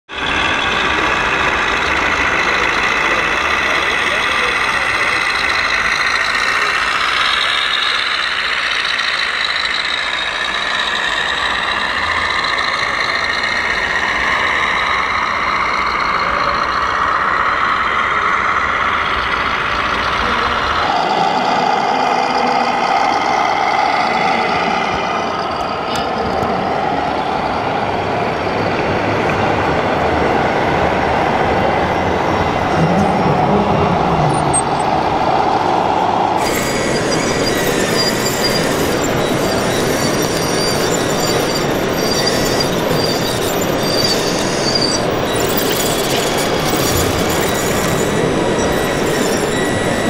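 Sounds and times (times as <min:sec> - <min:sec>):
diesel truck engine sounds: 0:00.1 - 0:50.0
hall noise: 0:00.1 - 0:50.0.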